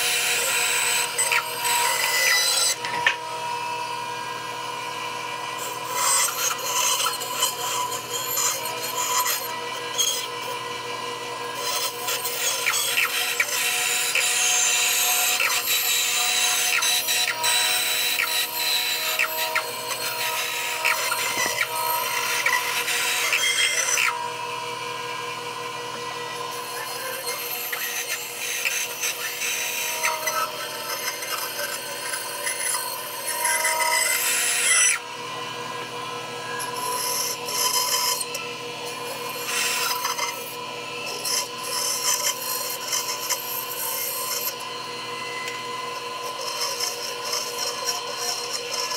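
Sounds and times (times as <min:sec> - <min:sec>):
bandsaw humming: 0:00.0 - 0:48.9
blade rasping through wood: 0:00.0 - 0:48.9.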